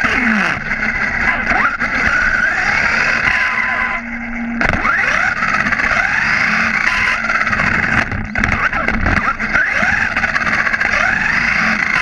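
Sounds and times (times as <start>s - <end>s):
electric motor whining: 0.0s - 12.0s
tyre and road noise: 0.0s - 12.0s.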